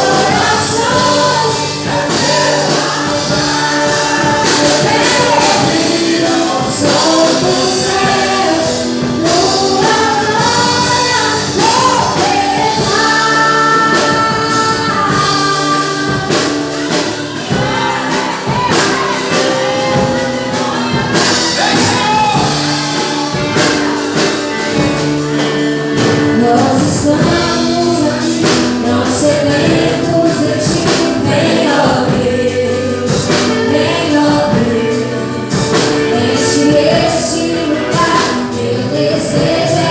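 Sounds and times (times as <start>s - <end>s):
instrumental accompaniment with beat: 0.0s - 39.9s
voices singing worship song: 0.0s - 39.9s.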